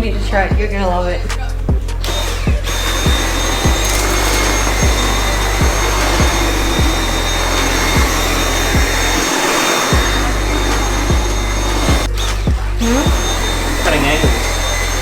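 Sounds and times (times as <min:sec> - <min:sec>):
background music with beat: 0:00.0 - 0:15.0
vacuum cleaner whine and hiss: 0:02.1 - 0:15.0.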